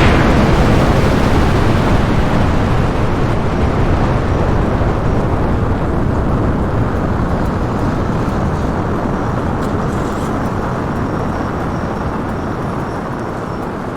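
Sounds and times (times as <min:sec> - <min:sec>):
loud vehicle rumble: 0:00.0 - 0:13.9.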